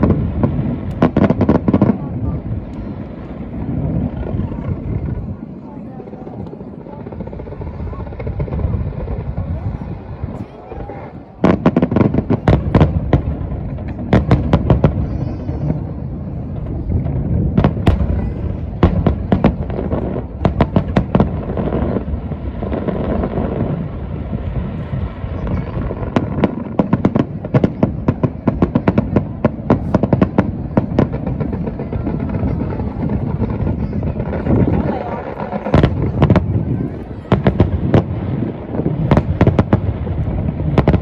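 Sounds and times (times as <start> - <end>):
quick crackling fireworks: 0.0 - 41.0.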